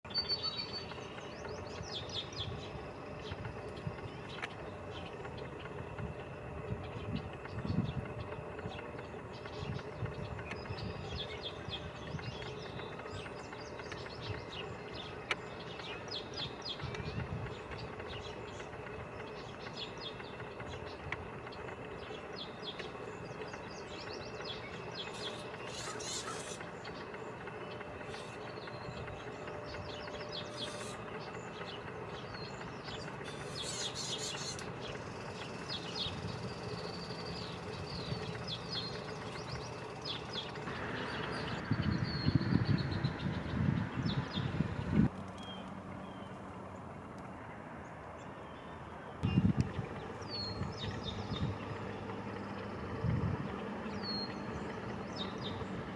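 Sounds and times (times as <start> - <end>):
birds chirping: 0.0 - 55.9
faint steady hum: 0.1 - 55.9.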